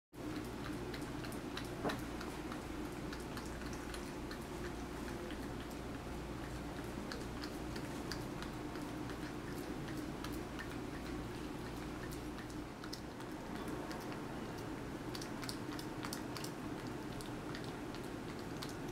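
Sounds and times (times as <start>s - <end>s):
cat licking and nibbling: 0.2s - 18.9s.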